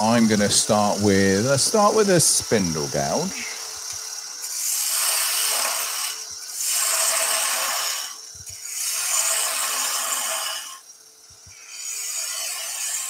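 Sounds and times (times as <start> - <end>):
gouge cutting spinning wood: 0.0 - 13.0
lathe humming: 0.0 - 13.0.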